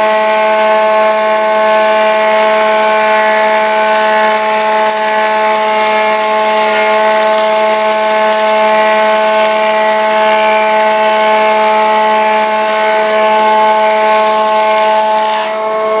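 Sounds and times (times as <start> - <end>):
wood planer whining: 0.0 - 16.0.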